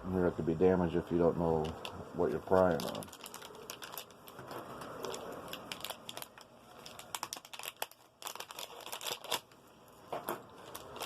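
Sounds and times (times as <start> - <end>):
packaging crinkling: 1.5 - 11.0.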